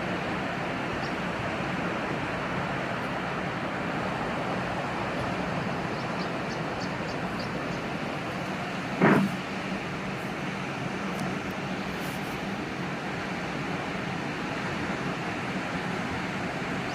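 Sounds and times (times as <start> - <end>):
sea surf: 0.0 - 16.9.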